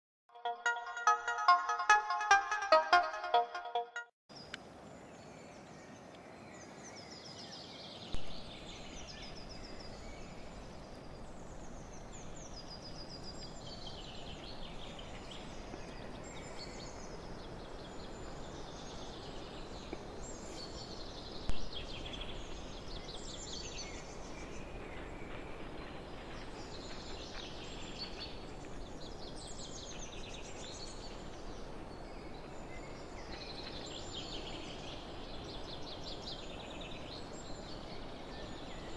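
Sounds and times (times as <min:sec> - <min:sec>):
small birds chirping: 0:04.3 - 0:38.9.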